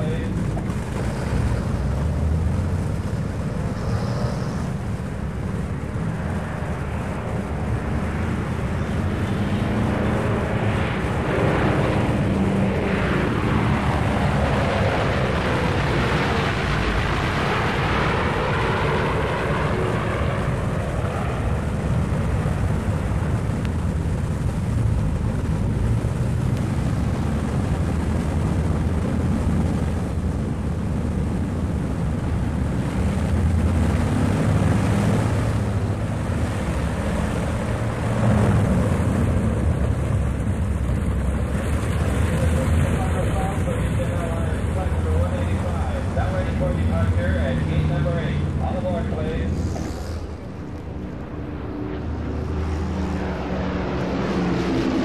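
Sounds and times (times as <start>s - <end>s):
propeller aircraft engines running: 0.0s - 55.0s.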